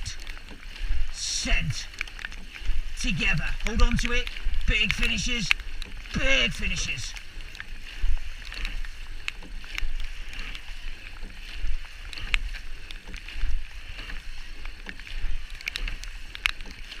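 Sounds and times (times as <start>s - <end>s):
oars clunking in gates: 0.0s - 17.0s
water rushing past hull: 0.0s - 17.0s.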